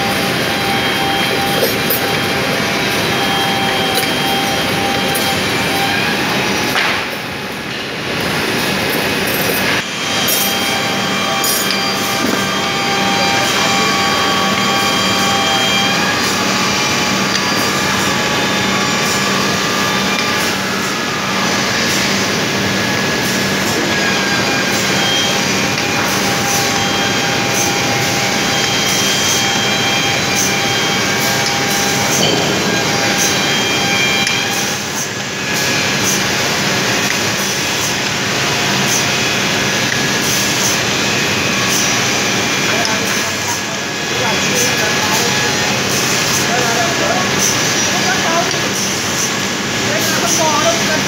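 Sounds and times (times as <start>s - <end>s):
drill motors whining: 0.0s - 51.0s.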